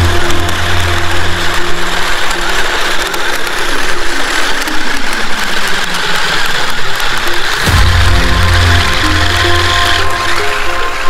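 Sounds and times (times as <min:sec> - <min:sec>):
toy car motors whirring and grinding: 0:00.0 - 0:10.9.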